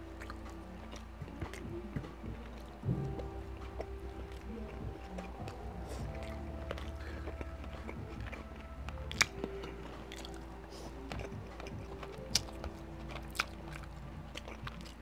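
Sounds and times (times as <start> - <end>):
person chewing noodles: 0.0 - 2.7, 3.8 - 15.0.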